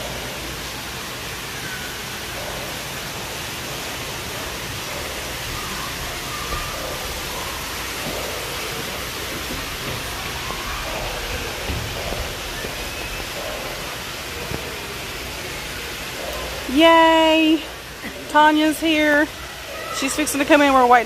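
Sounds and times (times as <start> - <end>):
faint voices: 0.0 - 21.0
running water rushing: 0.0 - 21.0.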